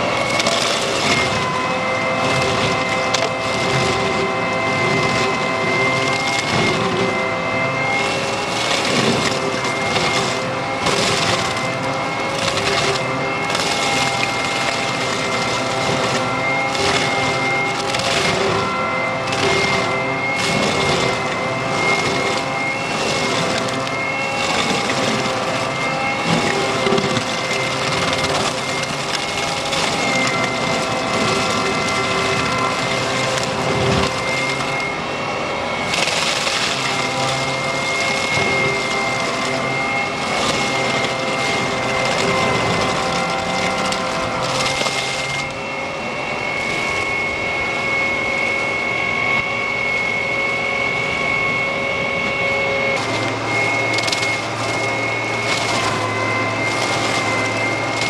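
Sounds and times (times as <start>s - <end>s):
high whine: 0.0s - 58.0s
stump grinder grinding: 0.0s - 58.0s.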